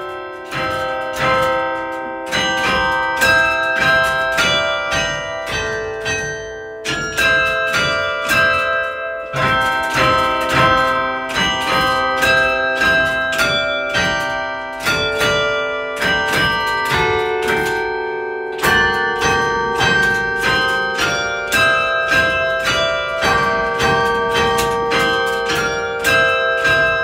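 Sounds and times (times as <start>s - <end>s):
church bells playing a melody: 0.0s - 27.0s.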